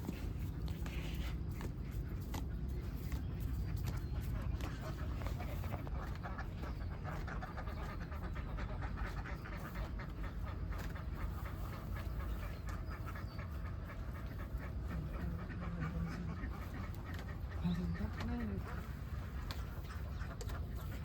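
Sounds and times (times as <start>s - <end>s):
ducks quacking: 0.0s - 21.0s
steady low rumble: 0.0s - 21.0s.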